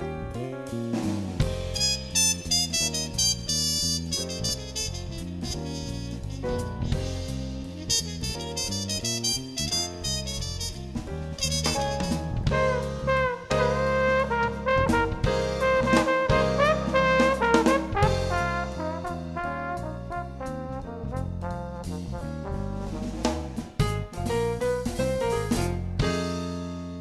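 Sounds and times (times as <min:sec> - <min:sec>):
jazzy brass and drums music: 0:00.0 - 0:27.0.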